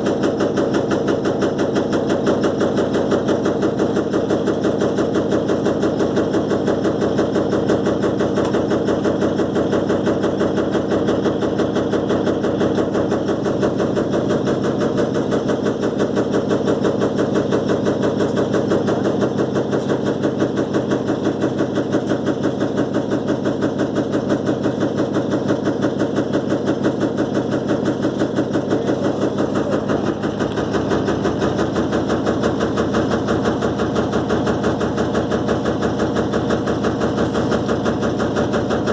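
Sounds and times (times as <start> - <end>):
washing machine shaking and rattling: 0.0 - 38.9.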